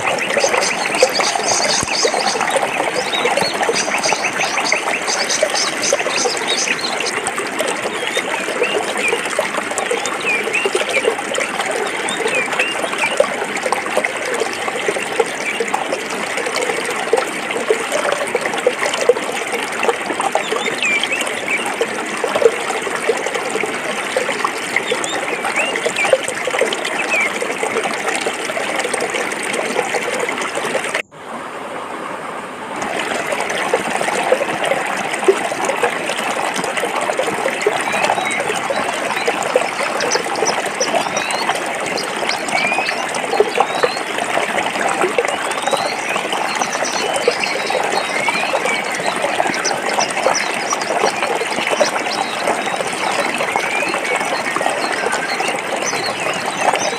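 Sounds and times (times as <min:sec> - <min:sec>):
stream babbling over rocks: 0:00.0 - 0:56.9.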